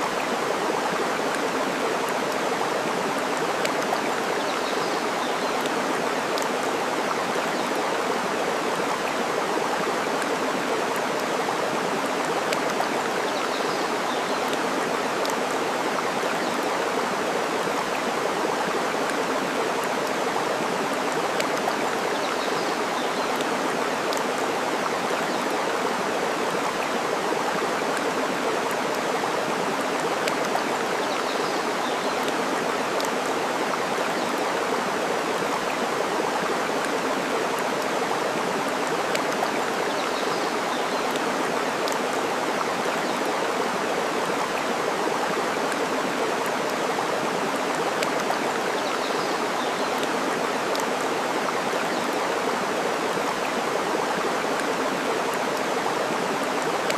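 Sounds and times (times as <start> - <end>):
flowing water: 0.0 - 56.9.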